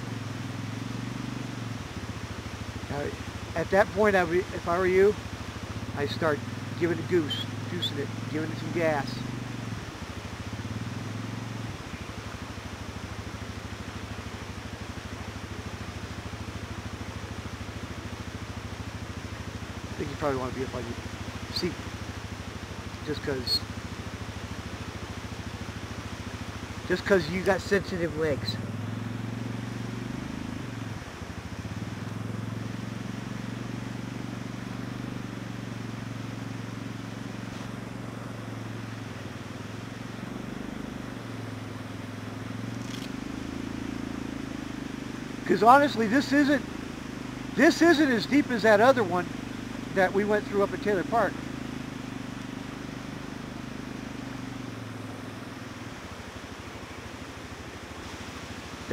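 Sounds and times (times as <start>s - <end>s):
creek rushing: 0.0s - 58.9s
engine idling: 0.0s - 58.9s.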